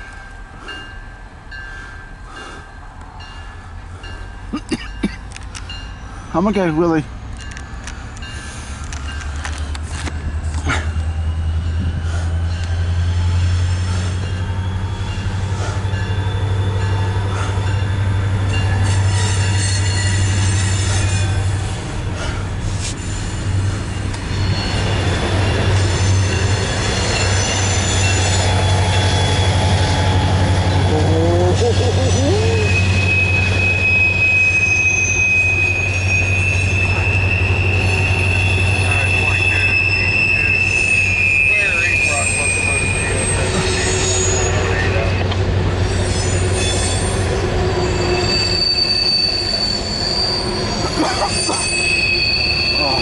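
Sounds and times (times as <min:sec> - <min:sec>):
freight train cars rumbling: 0:00.0 - 0:53.0
wheels squealing on rails: 0:05.3 - 0:53.0.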